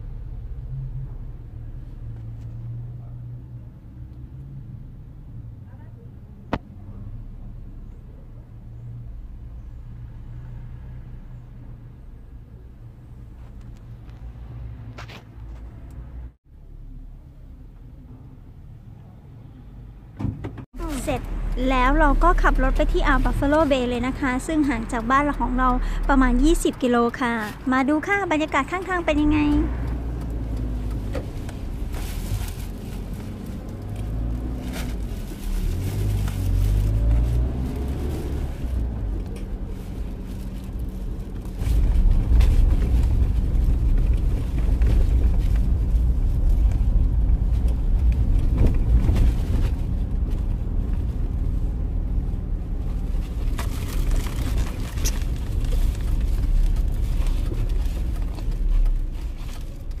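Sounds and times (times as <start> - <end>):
car engine and road noise: 0.0 - 60.0.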